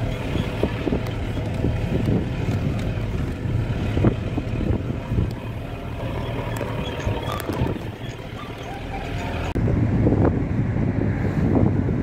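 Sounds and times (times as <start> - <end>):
vehicle rumbling: 0.0 - 12.0
wind buffeting microphone: 0.0 - 12.0.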